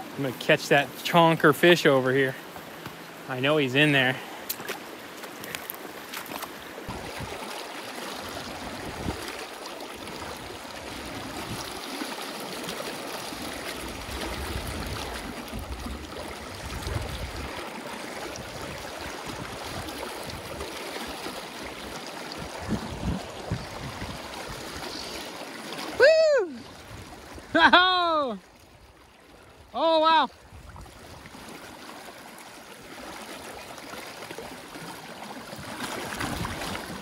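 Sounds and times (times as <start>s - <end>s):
creek rushing over rocks: 0.0s - 28.4s, 29.7s - 37.0s.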